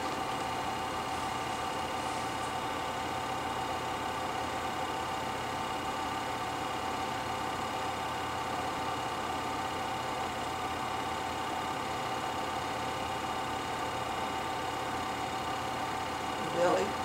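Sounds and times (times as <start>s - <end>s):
film projector whirring: 0.0s - 17.0s.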